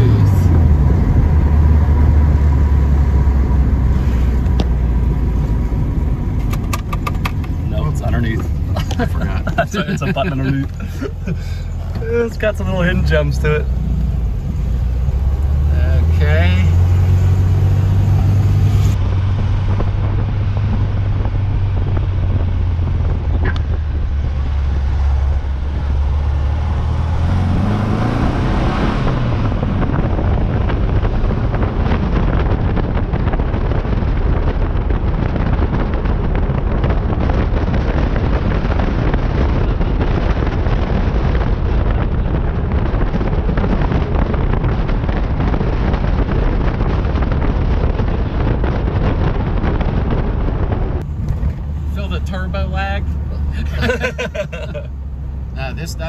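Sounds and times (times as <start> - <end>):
car engine running: 0.0 - 56.0
heavy wind rush: 0.0 - 56.0
road rush: 0.0 - 56.0.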